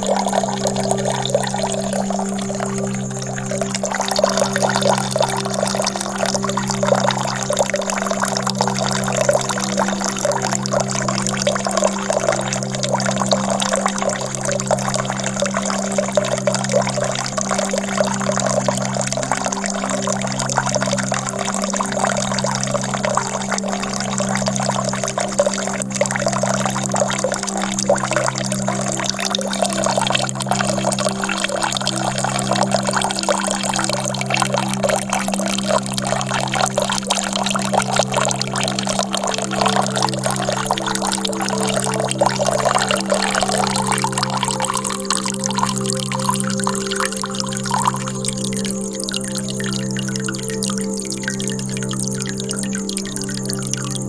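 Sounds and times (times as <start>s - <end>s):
low musical drone: 0.0s - 54.0s
water pouring: 0.0s - 54.0s.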